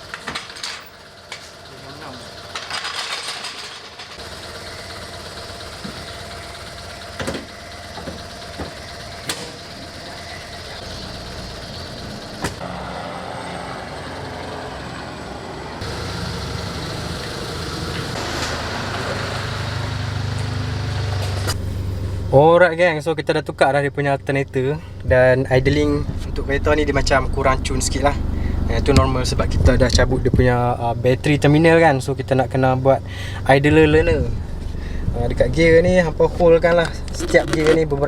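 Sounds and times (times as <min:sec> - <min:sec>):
car engine idling unevenly: 0:00.0 - 0:38.0.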